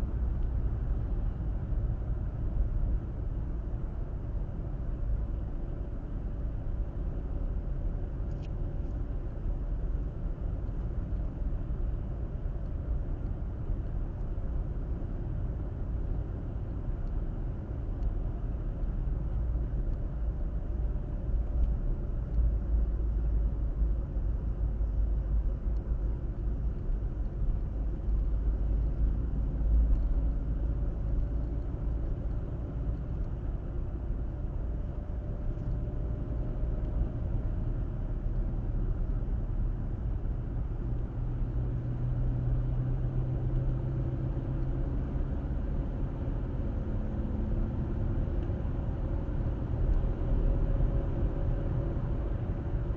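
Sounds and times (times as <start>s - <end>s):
car driving on road: 0.0s - 52.9s.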